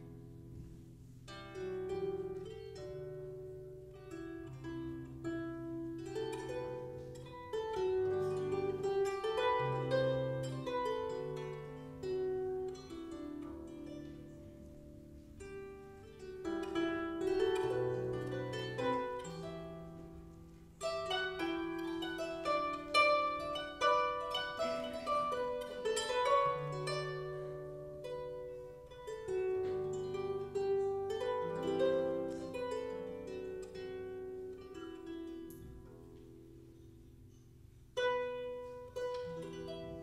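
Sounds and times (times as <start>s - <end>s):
solo harp playing: 0.0s - 40.0s.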